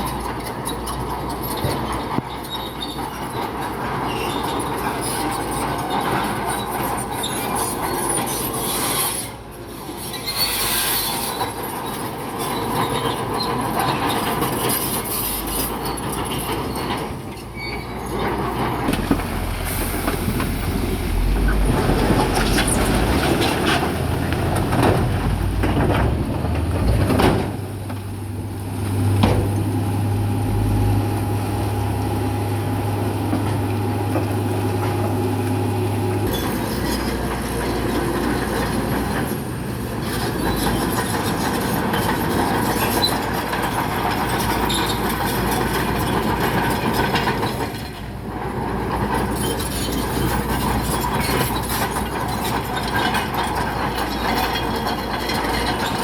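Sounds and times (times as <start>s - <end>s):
bulldozer diesel engine: 0.0s - 56.0s
steel tracks clanking and squealing: 0.0s - 56.0s.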